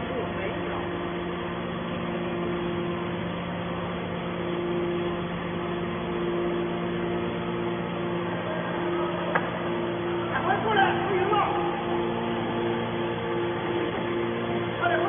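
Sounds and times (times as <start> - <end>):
hydraulic baler humming: 0.0 - 15.0.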